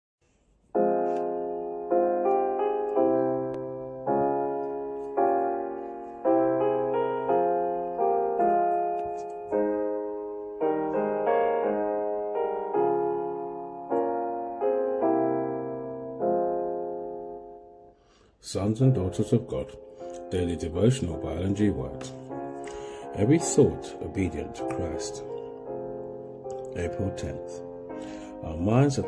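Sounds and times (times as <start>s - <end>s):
slow solo piano chords: 0.8s - 18.0s, 18.8s - 29.0s.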